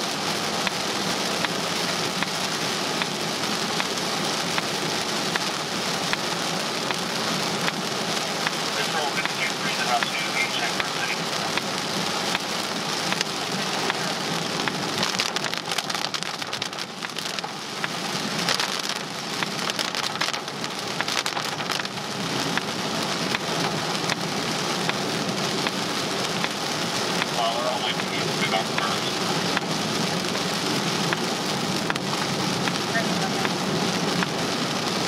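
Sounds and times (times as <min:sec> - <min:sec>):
heavy rain on windshield: 0:00.0 - 0:35.0.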